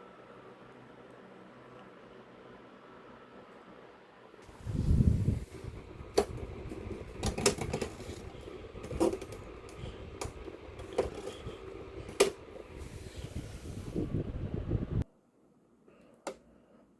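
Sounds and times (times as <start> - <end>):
electric fan humming: 0.0 - 16.8.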